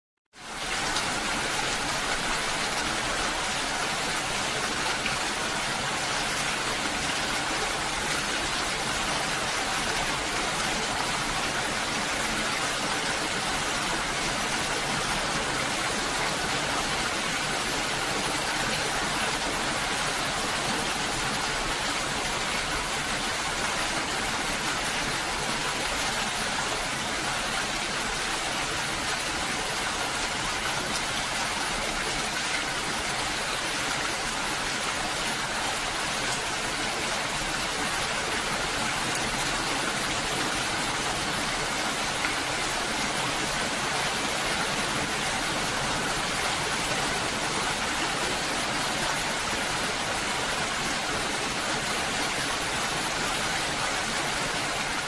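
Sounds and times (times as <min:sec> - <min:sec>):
steady rainfall hiss: 0:00.4 - 0:55.0.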